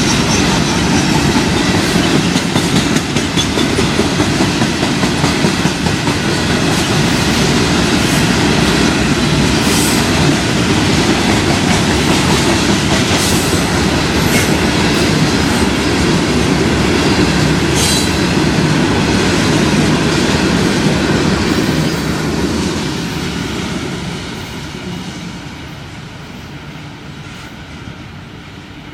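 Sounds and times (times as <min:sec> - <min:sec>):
train wheels rumbling and clattering: 0:00.0 - 0:28.9.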